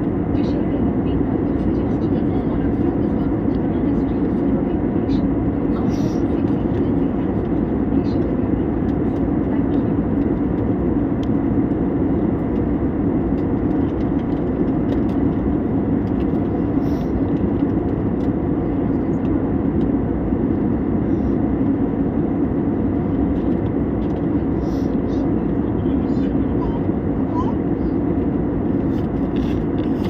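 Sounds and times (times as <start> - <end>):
aeroplane roar: 0.0 - 30.0.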